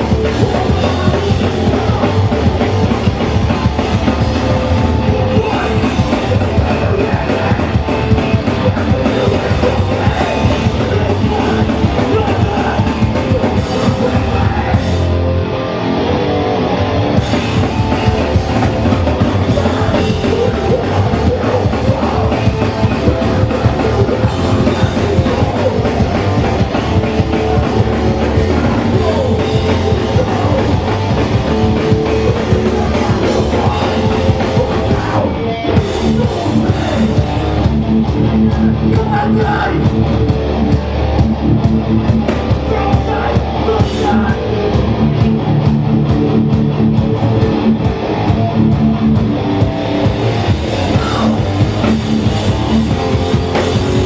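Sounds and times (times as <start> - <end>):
shouted vocals: 0.0 - 15.2, 17.6 - 40.1, 42.4 - 45.2, 50.5 - 54.0
live punk band playing: 0.0 - 54.0.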